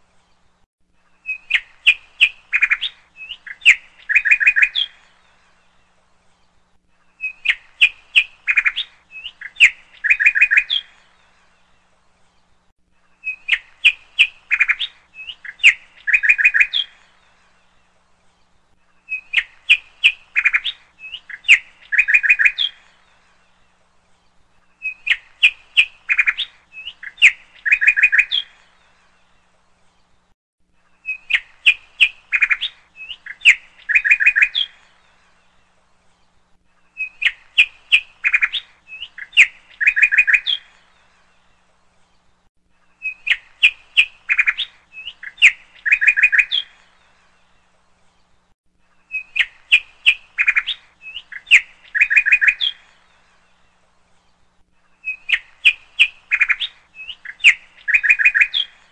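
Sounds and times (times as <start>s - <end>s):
bird chirping: 0.0s - 58.9s.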